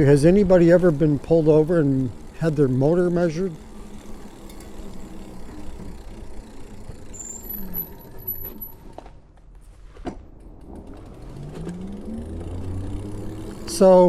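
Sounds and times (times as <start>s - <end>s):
electric bike motor whining: 0.0s - 9.5s, 10.2s - 14.0s.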